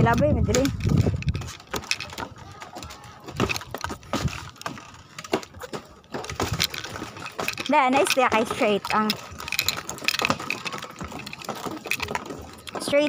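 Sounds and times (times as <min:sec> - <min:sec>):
footsteps on bamboo slats: 0:00.0 - 0:13.0.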